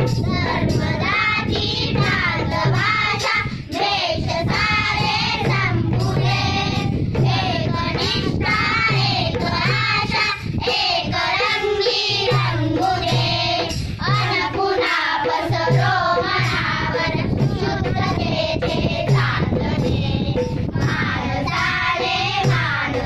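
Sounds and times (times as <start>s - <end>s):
children singing together: 0.0s - 23.0s.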